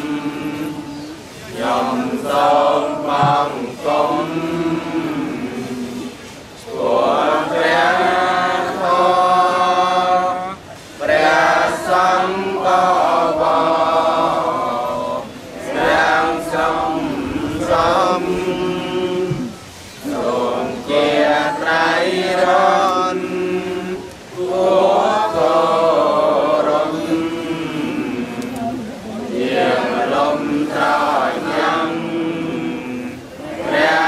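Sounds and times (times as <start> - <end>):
group chanting in unison: 0.0 - 34.0.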